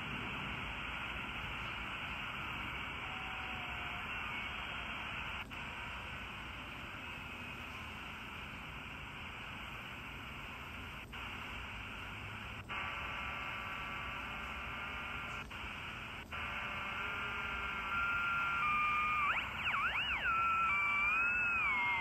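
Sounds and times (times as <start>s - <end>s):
shortwave radio static hiss: 0.0s - 22.0s
whistling radio tones: 0.7s - 7.5s, 9.1s - 22.0s.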